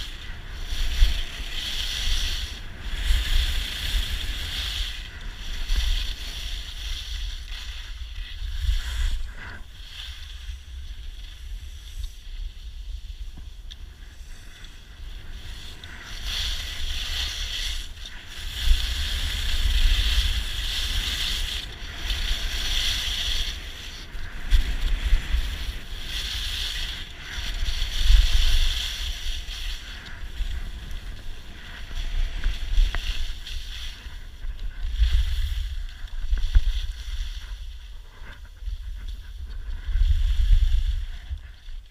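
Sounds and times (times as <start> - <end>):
skis carving across snow: 0.0 - 41.9
wind buffeting microphone: 0.0 - 41.9.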